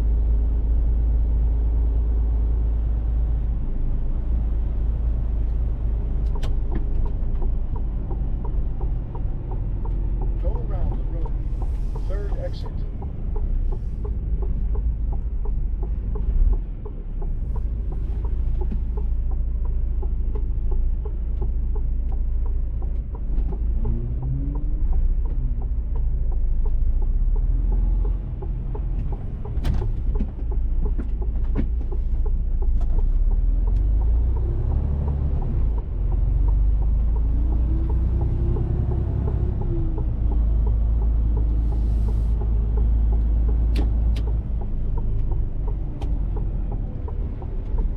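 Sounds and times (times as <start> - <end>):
road noise rumble: 0.0 - 47.9
truck diesel engine: 0.0 - 47.9.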